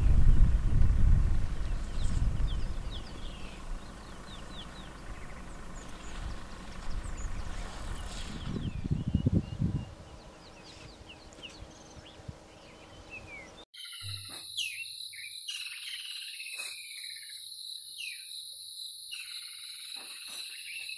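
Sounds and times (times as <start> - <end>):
bird chirps: 0.0 - 20.9.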